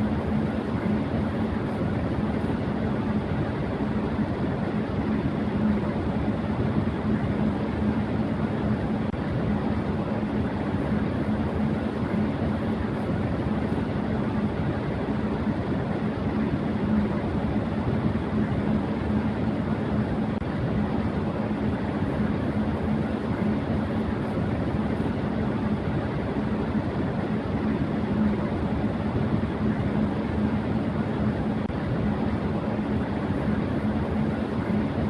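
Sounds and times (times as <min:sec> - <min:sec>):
electric fan running: 0:00.0 - 0:35.0.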